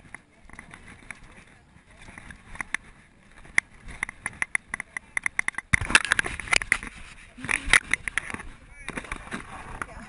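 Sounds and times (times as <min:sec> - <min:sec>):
dry grass and dirt crunching: 0:00.0 - 0:10.0.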